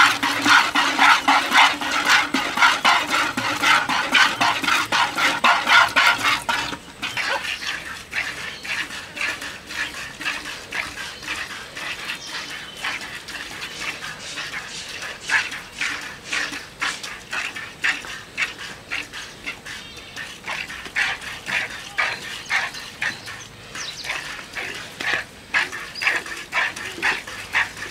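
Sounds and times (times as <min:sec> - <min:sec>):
milk squirting into bucket: 0:00.0 - 0:27.9.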